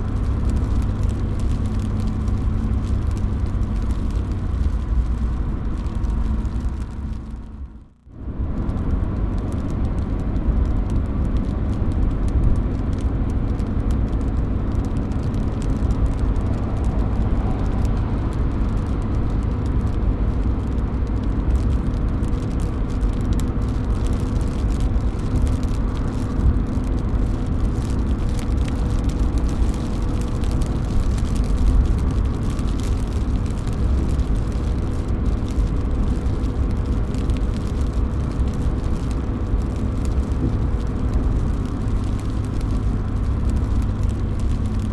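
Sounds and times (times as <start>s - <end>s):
heavy low rumble: 0.0s - 44.9s
rain dripping off a roof: 0.0s - 44.9s.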